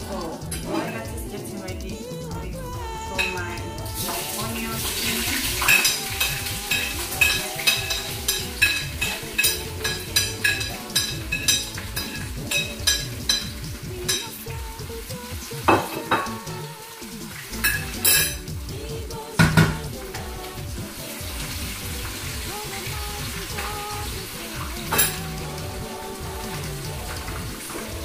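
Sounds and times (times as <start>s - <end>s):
food sizzling in pan: 0.0s - 28.0s.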